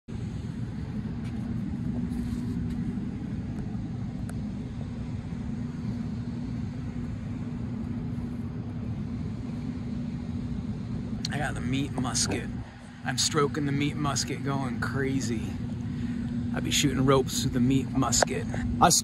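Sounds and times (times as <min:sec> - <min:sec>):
low mechanical drone: 0:00.1 - 0:19.0.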